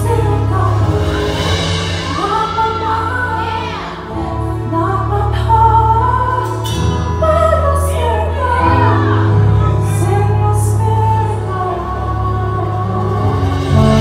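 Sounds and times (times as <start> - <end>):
backing band: 0.0 - 14.0.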